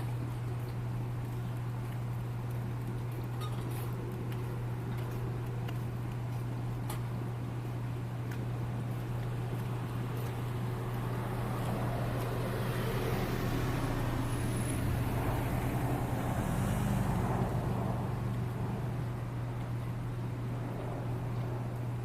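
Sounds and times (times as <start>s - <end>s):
low engine hum: 0.0s - 22.0s
road traffic noise: 0.0s - 22.0s.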